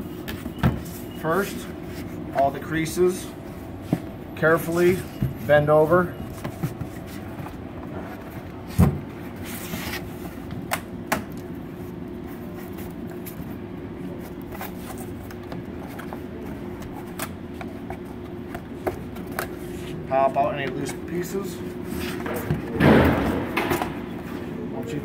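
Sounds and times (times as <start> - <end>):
room hum: 0.0 - 25.0.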